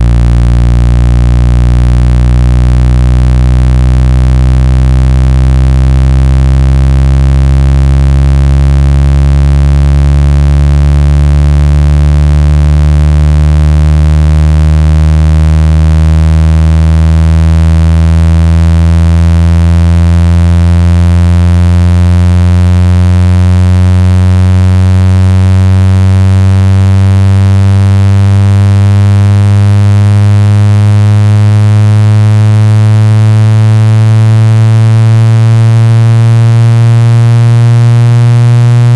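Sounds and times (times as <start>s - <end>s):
low synthetic buzzing tone rising: 0.0s - 38.9s.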